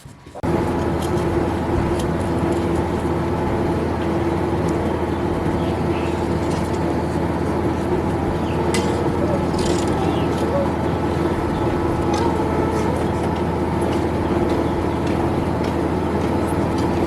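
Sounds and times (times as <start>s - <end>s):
electric motor whining: 0.4s - 17.0s.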